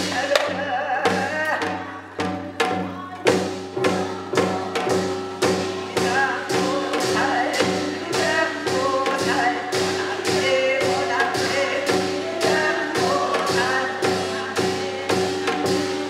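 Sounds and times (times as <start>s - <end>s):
woman singing: 0.0s - 4.6s, 5.5s - 16.0s
percussion steady beat: 0.0s - 16.0s.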